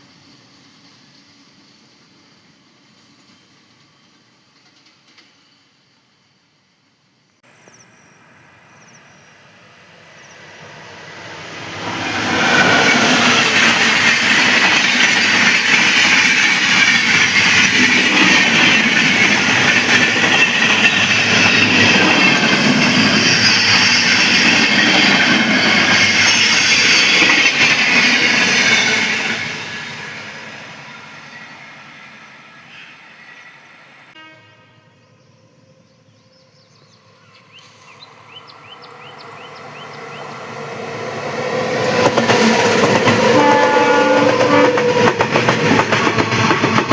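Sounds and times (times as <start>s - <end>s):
train passing: 0.0s - 46.9s.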